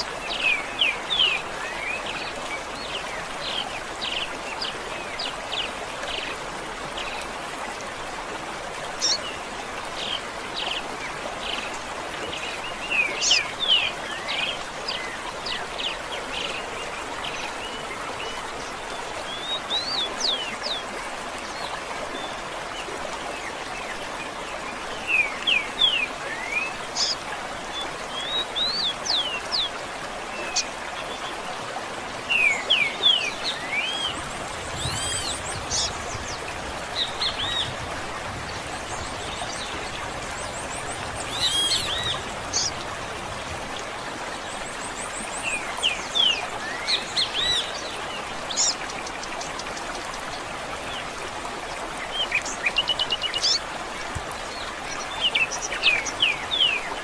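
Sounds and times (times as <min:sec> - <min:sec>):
songbirds chirping: 0:08.9 - 0:57.0.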